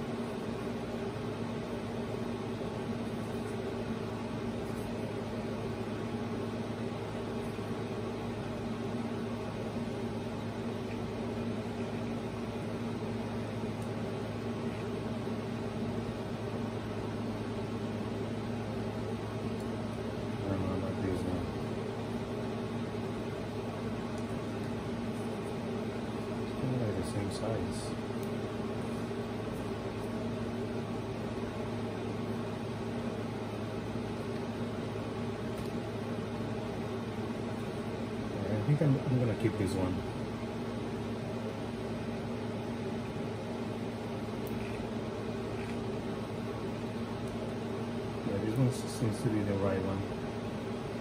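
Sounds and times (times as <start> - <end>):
low hum with hiss: 0.0 - 51.0.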